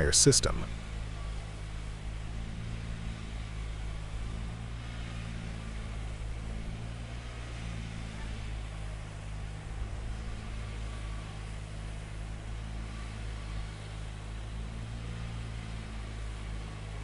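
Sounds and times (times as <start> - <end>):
construction site noise: 0.0 - 17.0
heavy machine engine humming: 0.0 - 17.0.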